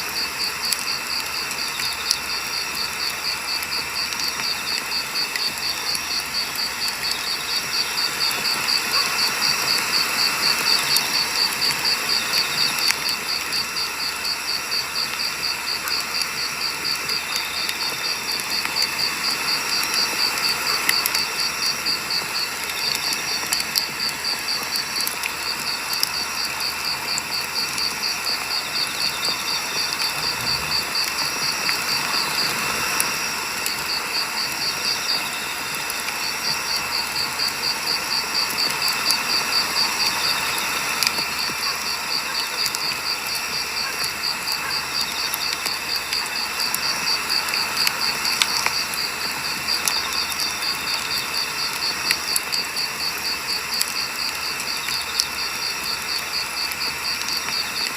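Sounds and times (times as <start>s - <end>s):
crickets chirping: 0.0s - 57.9s
firewood crackling and popping: 0.0s - 57.9s.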